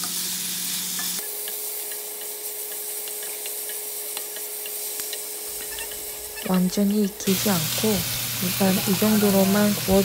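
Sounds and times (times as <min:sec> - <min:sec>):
beef sizzling in oil: 0:00.0 - 0:10.0.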